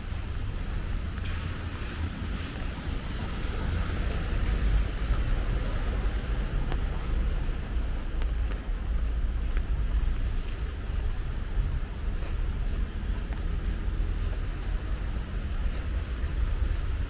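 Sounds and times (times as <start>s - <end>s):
low rumble: 0.0s - 17.0s
steady rain falling: 0.0s - 17.0s.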